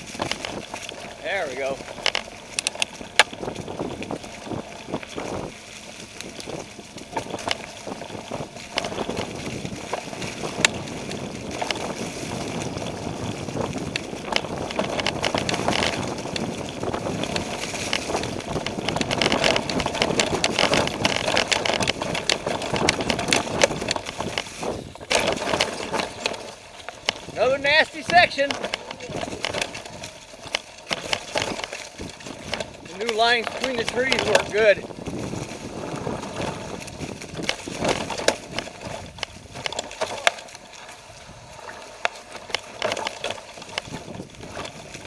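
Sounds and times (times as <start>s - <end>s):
bike rattling clicks and knocks: 0.0s - 45.0s
bike tyres churning through leaves: 0.0s - 45.0s.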